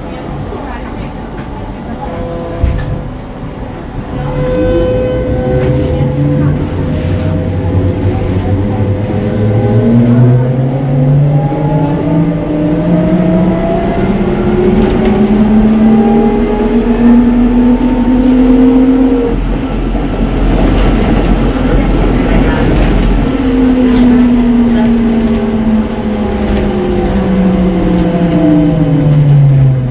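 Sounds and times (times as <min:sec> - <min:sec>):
road rumble: 0:00.0 - 0:29.9.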